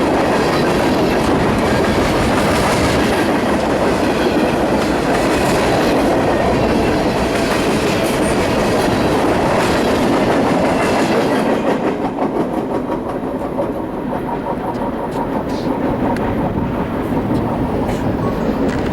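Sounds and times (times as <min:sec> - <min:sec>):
train cars rolling past: 0:00.0 - 0:18.9
wheels clicking over rail joints: 0:00.0 - 0:18.9.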